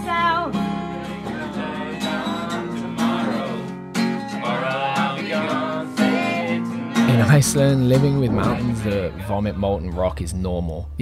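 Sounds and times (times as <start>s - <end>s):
acoustic guitar strumming: 0.0s - 9.6s.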